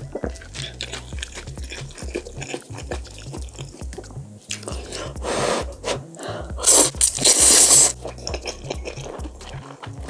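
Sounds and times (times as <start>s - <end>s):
chewing: 0.0s - 10.0s
noodles slurped: 0.0s - 10.0s
wet mouth clicks: 0.0s - 10.0s.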